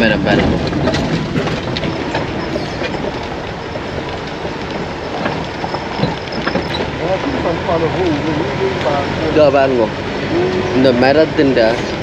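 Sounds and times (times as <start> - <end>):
road and engine noise: 0.0 - 12.0.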